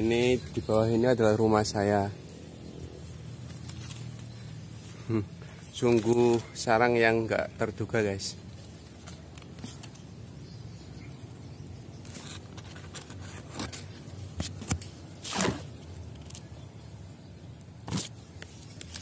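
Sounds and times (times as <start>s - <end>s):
leaves and twigs rustling: 0.0s - 19.0s.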